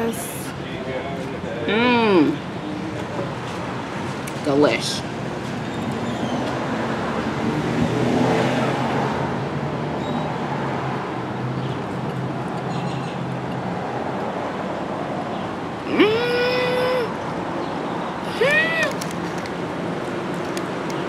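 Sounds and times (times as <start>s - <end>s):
traffic hum: 0.0s - 21.0s.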